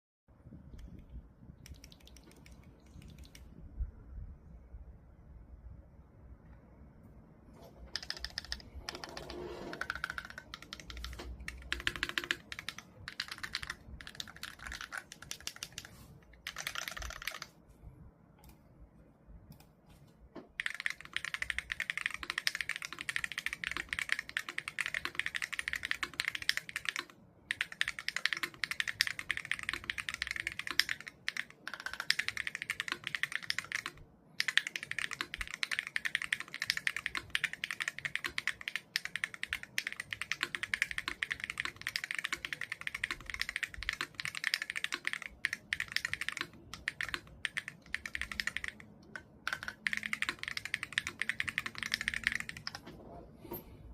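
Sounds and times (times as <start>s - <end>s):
clacky mechanical keyboard typing: 1.6s - 3.4s, 7.6s - 17.6s, 20.6s - 52.8s.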